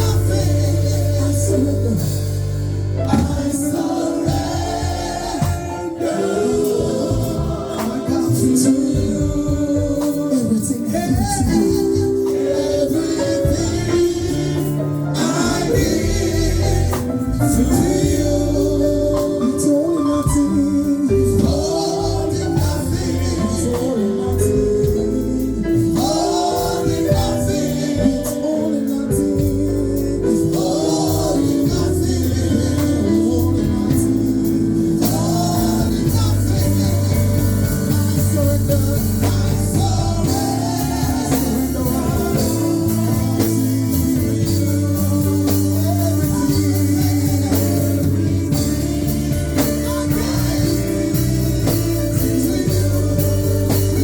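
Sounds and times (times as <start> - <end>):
band playing: 0.0 - 54.0
gospel singing: 0.0 - 54.0
sustained keyboard chords: 0.0 - 54.0.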